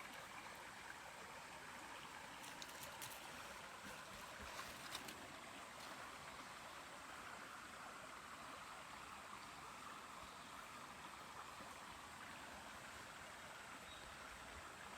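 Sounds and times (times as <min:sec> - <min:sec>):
stream flowing over rocks: 0:00.0 - 0:14.9.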